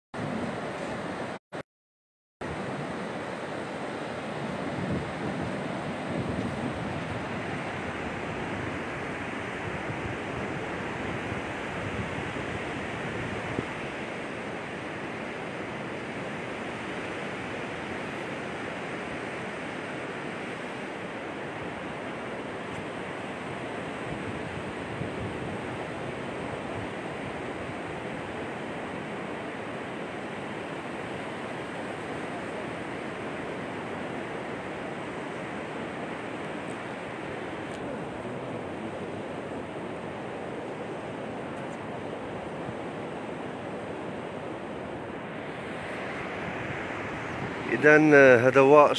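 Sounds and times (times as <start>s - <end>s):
ocean surf breaking: 0.2s - 1.4s, 2.5s - 48.9s.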